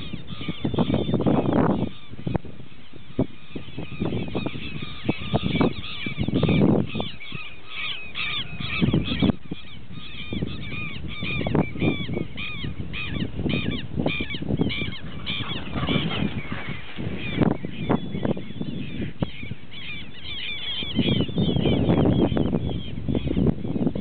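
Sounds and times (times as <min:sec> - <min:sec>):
birds harsh calls: 0:00.0 - 0:24.0.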